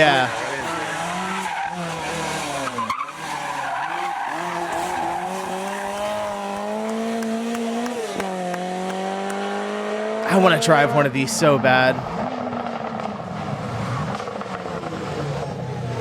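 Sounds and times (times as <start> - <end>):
rally car engine accelerating: 0.0 - 16.0.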